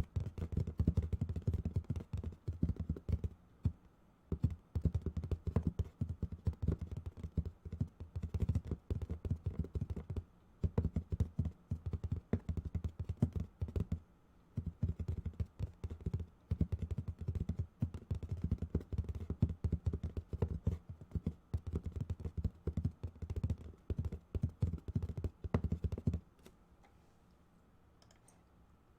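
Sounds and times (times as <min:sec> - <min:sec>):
fast keyboard typing clicks: 0:00.0 - 0:03.3, 0:04.3 - 0:14.0, 0:14.6 - 0:26.2.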